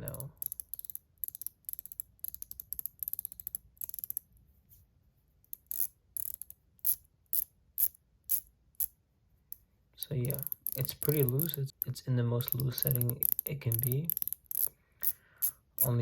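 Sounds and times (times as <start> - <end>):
ratchet ring clicking: 0.0 - 4.2, 5.5 - 8.9, 10.2 - 15.9.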